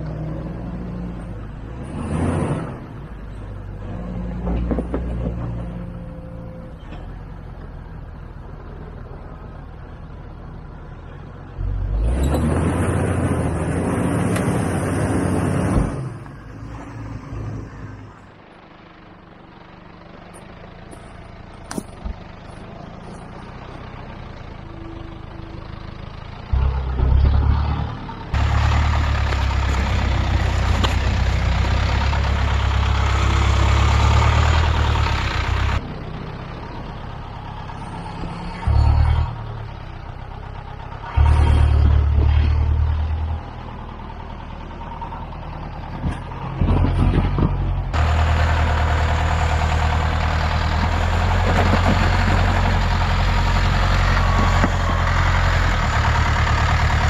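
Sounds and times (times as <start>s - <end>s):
off-road engines under load: 0.0s - 57.0s.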